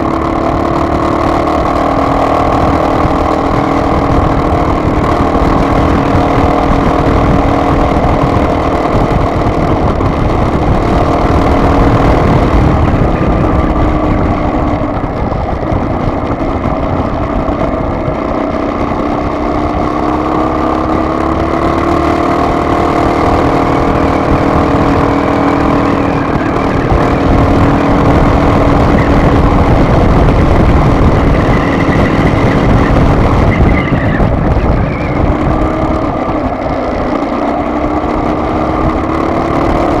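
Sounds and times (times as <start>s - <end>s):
car engine drone: 0.0s - 40.0s
tyre road rumble: 0.0s - 40.0s.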